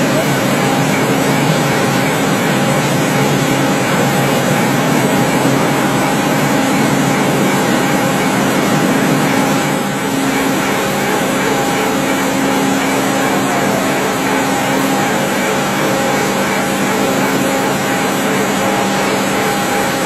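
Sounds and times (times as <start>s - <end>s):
lathe machine hum and whine: 0.0s - 20.0s.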